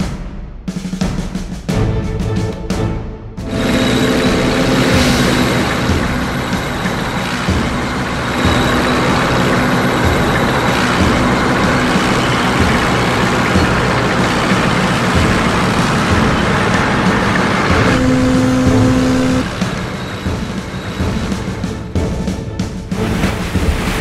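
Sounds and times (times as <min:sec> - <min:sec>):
tracked vehicle engine humming: 0:03.4 - 0:22.8.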